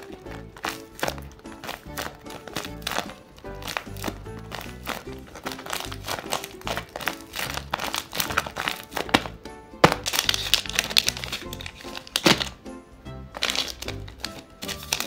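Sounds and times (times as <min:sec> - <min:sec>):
paper squishy crinkling: 0:00.0 - 0:12.6, 0:13.3 - 0:15.0
background music with steady beat: 0:00.0 - 0:15.0.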